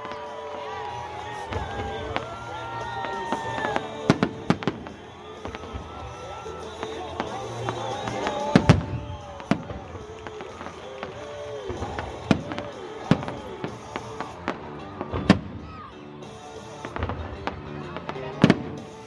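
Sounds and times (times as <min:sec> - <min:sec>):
fireworks bangs: 0:00.0 - 0:19.0
music playing: 0:00.0 - 0:19.0.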